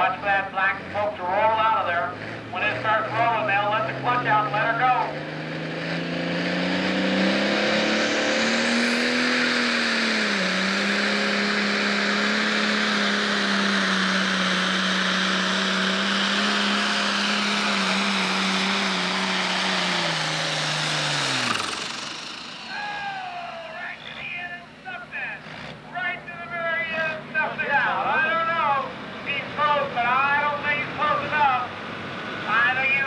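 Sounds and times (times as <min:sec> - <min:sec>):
pulling tractor diesel engine: 0:00.0 - 0:33.0.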